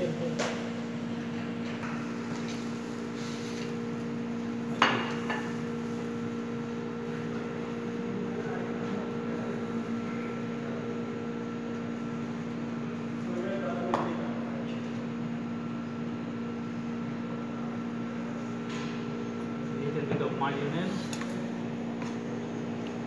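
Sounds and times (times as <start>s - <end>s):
kitchen equipment humming: 0.0s - 23.0s.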